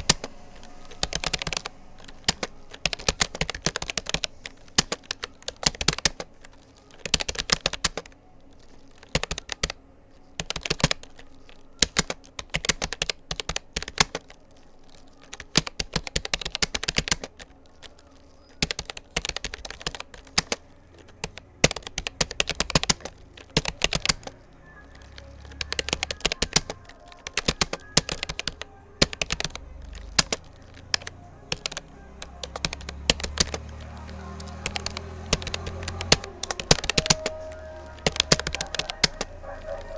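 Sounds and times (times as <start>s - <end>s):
background music: 0.0s - 39.9s
keyboard keys clicking: 0.0s - 39.9s.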